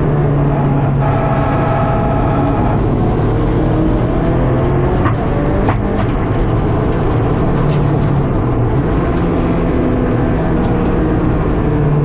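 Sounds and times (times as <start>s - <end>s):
car engine under load: 0.0s - 12.0s
road and tyre noise: 0.0s - 12.0s.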